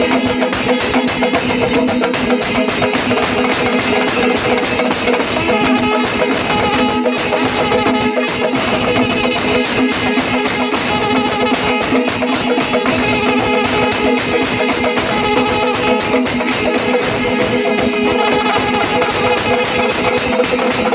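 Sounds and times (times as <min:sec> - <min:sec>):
drums and cymbals beating fast: 0:00.0 - 0:20.9
wind instrument holding long note: 0:03.0 - 0:20.9.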